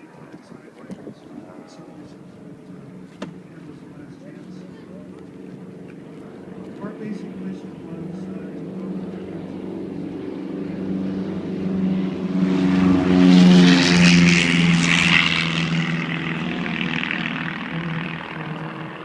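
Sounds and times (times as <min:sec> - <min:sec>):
propeller airplane passing: 0:00.0 - 0:19.0.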